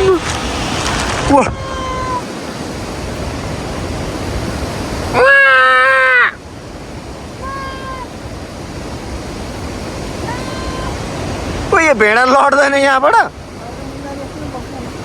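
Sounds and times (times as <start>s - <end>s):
steady rushing noise: 0.0s - 5.3s, 6.3s - 15.0s.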